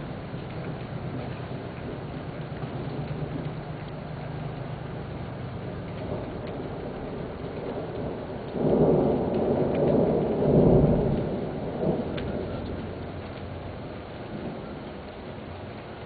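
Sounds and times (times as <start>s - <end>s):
rumble of thunder: 0.0s - 15.3s
steady rain: 0.0s - 16.0s.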